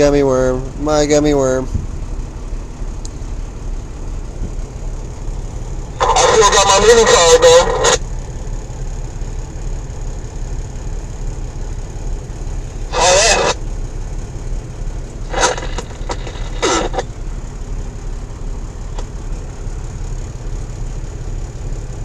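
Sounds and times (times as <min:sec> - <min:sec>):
truck diesel engine rumble: 0:00.0 - 0:22.0.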